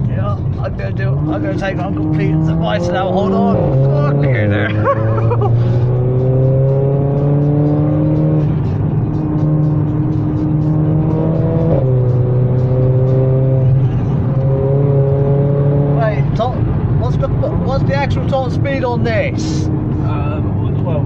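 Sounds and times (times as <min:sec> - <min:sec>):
car engine accelerating: 0:00.0 - 0:21.0
music playing: 0:00.0 - 0:21.0.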